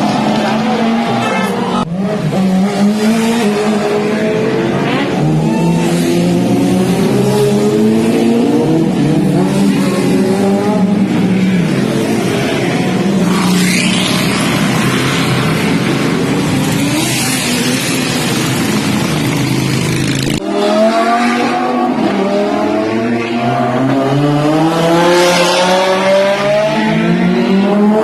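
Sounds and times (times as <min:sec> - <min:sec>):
sports car engines revving: 0:00.0 - 0:28.0.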